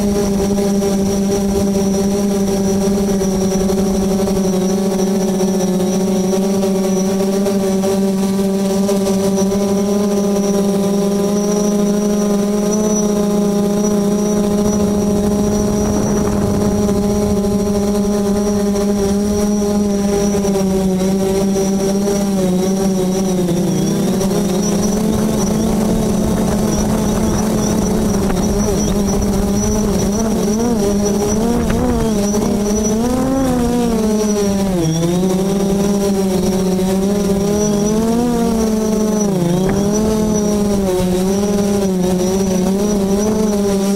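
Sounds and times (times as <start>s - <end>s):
drone propellers humming: 0.0s - 43.9s.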